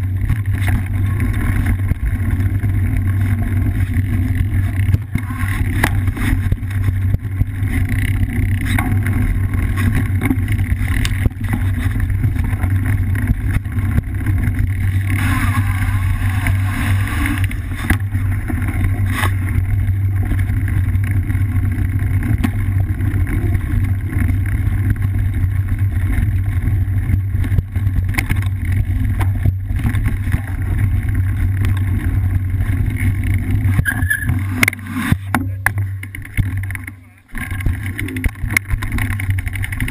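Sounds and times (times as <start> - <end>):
bike rattling over dirt trail: 0.0 - 39.9.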